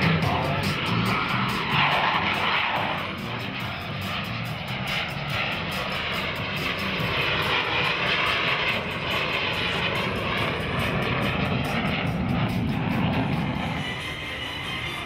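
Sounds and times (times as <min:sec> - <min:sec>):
jet engine rushing: 0:00.0 - 0:15.0.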